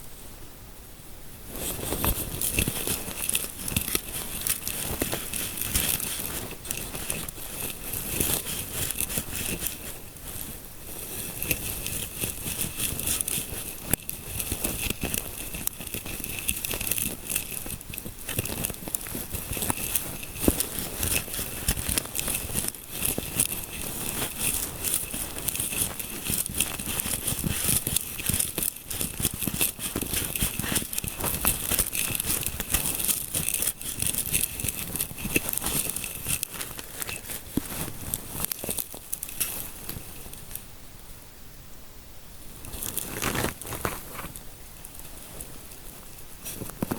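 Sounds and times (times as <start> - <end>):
fingers scratching through hair: 1.5 - 40.6, 42.6 - 46.9.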